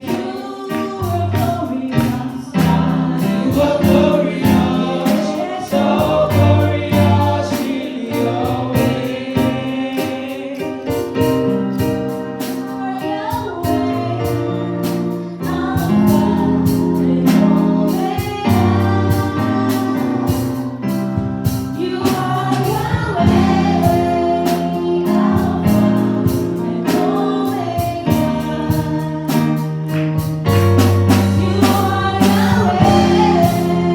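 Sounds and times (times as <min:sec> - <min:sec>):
gospel choir singing with band: 0:00.0 - 0:33.9.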